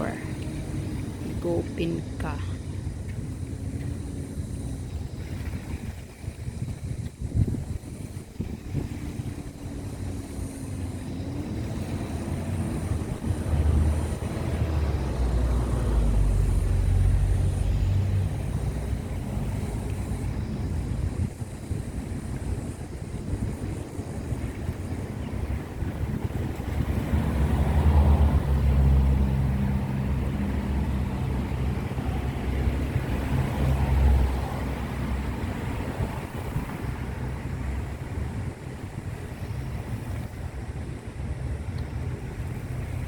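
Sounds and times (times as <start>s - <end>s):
low rumble of ship engines: 0.0s - 43.0s.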